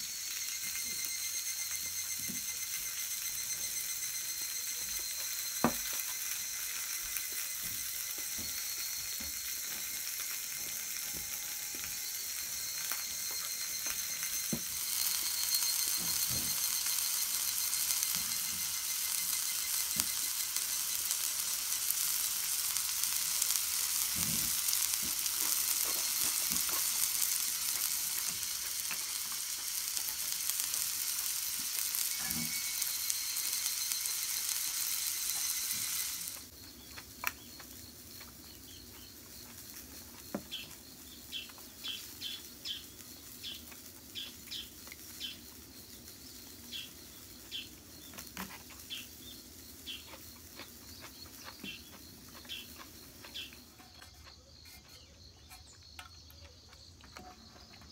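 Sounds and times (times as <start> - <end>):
food sizzling in a skillet: 0.0 - 55.0.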